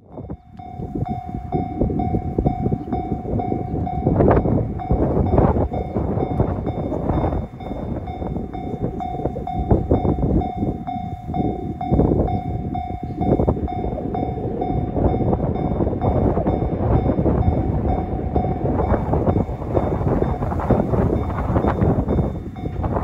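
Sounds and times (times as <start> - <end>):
electronic crossing bell: 0.0 - 23.0
heavy low rumble: 0.0 - 23.0.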